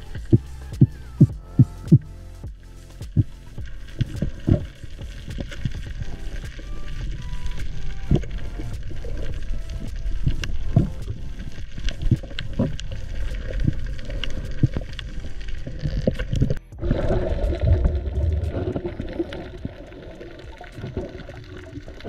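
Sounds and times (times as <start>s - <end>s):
muffled underwater rumble: 0.0s - 22.0s
sharp clicks and crackles: 0.0s - 22.0s.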